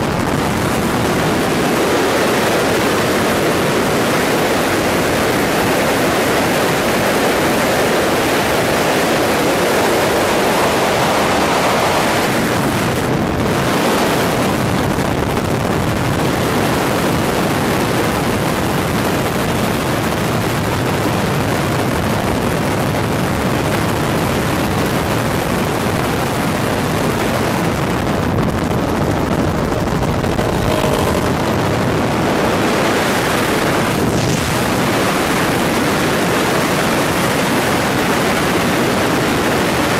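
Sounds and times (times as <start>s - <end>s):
helicopter roar: 0.0s - 18.8s, 25.0s - 39.9s
wind on microphone: 0.0s - 39.9s.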